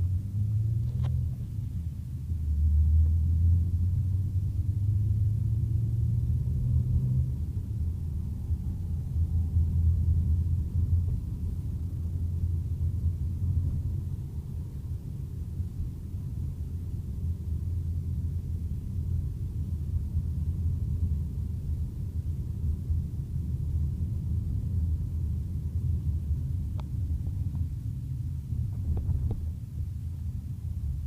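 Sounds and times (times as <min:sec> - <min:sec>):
car cabin road and engine rumble: 0:00.0 - 0:31.0.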